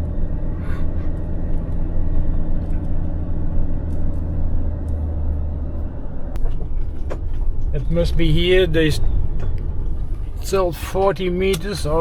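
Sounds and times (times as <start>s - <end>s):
camper van engine droning: 0.0s - 12.0s.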